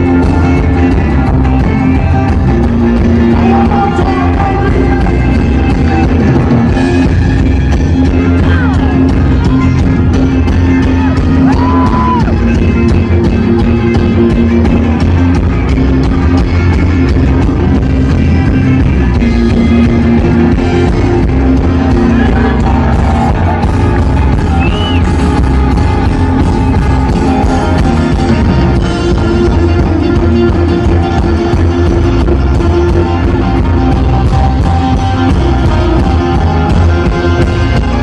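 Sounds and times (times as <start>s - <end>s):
rock and roll music with guitar: 0.0s - 38.0s.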